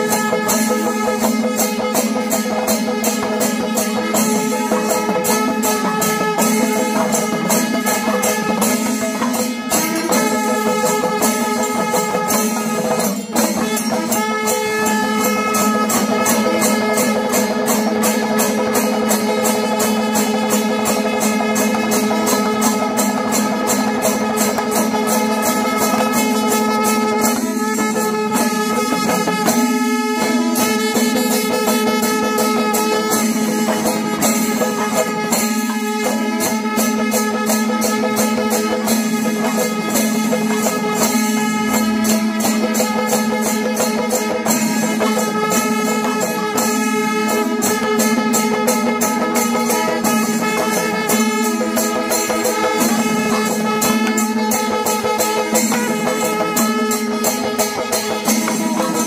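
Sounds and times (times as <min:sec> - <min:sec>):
metallic percussion strokes: 0:00.0 - 0:59.0.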